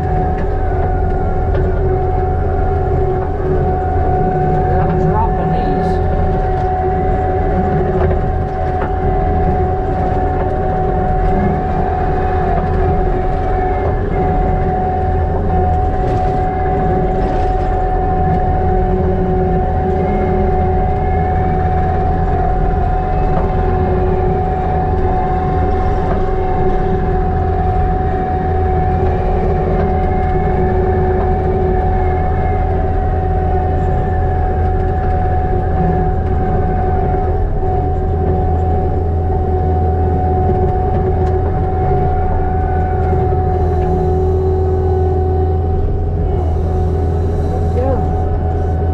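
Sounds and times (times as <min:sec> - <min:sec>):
diesel engine running under load: 0:00.0 - 0:48.9
engine whine: 0:00.0 - 0:48.9.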